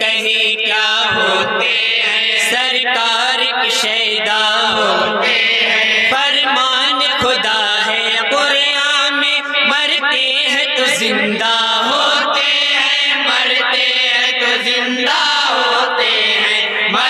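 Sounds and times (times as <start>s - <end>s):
men chanting a devotional song: 0.0s - 17.0s.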